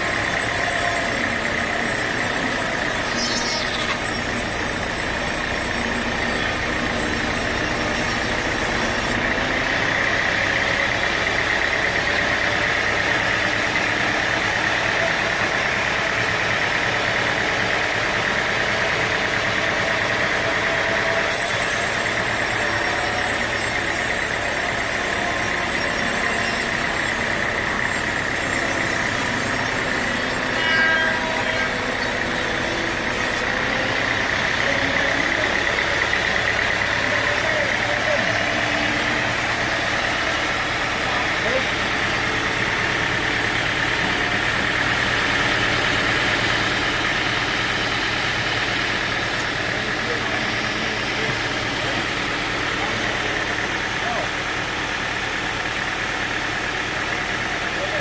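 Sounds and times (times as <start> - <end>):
sawmill machinery running: 0.0 - 58.0
steady machine whine: 0.0 - 58.0.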